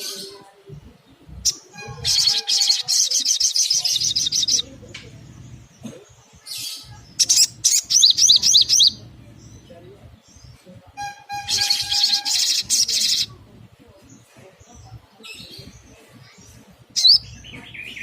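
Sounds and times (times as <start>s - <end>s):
bird trilling and chirping: 0.0s - 18.0s.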